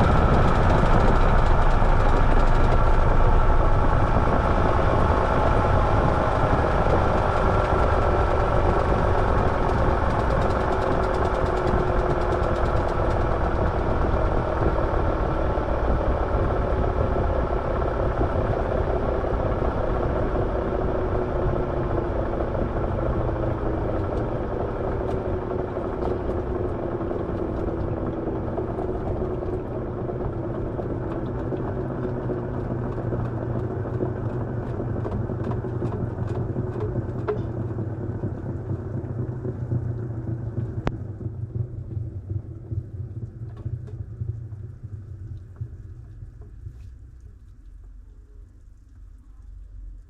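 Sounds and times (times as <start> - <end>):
washing machine running: 0.0 - 46.7.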